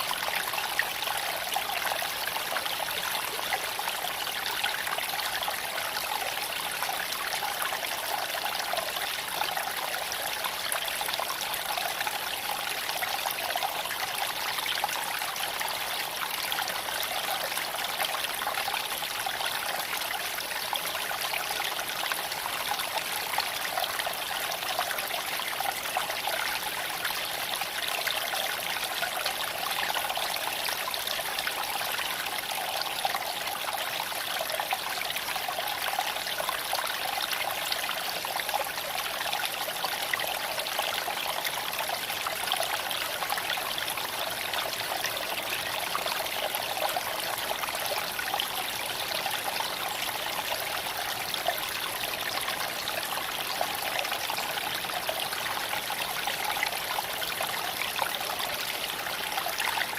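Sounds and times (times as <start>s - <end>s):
creek trickling over stones: 0.0s - 59.9s.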